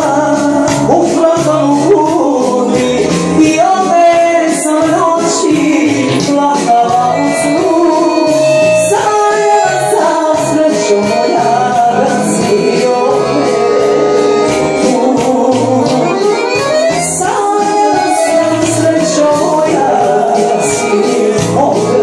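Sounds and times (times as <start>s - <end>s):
folk music on electronic keyboards: 0.0s - 22.0s.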